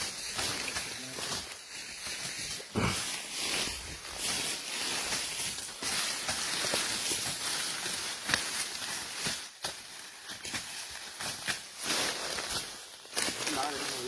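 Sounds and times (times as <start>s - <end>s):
vegetation rustling and crackling: 0.0s - 14.0s.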